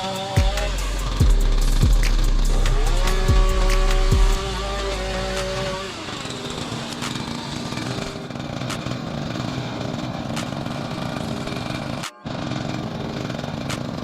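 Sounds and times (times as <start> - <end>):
small gasoline engine running: 0.0 - 14.0.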